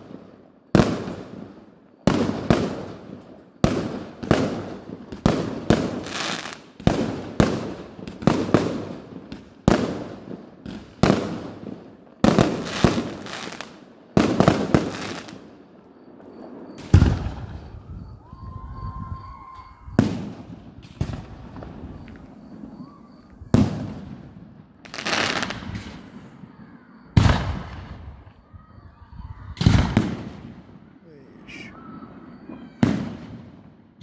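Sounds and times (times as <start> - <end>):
fireworks bursting with echo: 0.0 - 34.0.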